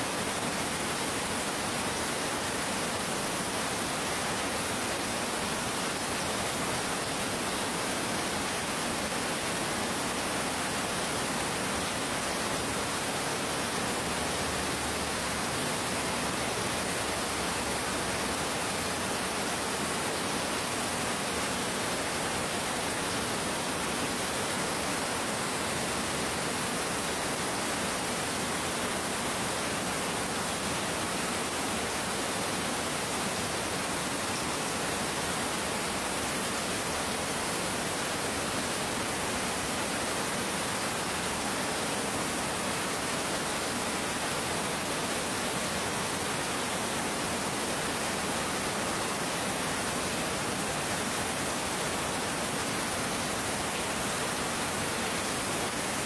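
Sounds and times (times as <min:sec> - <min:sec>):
heavy pouring rain: 0:00.0 - 0:56.0.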